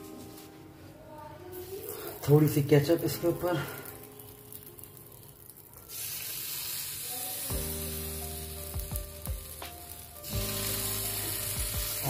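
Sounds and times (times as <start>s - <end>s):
background music sustained notes: 0.0s - 5.8s, 7.5s - 12.0s
food sizzling on hot griddle: 1.5s - 12.0s.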